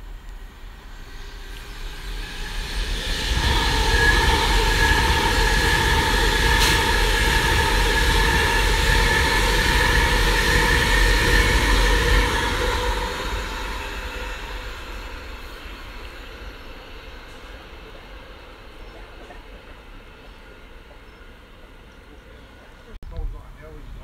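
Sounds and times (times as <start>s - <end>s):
electric train passing at speed: 0.0s - 23.0s
train whine: 0.0s - 24.0s.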